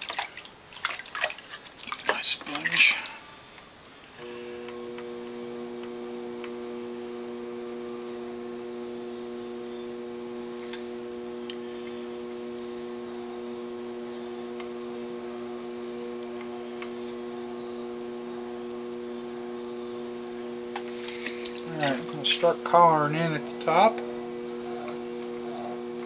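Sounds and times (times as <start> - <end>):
potter's wheel motor humming: 4.2 - 26.0.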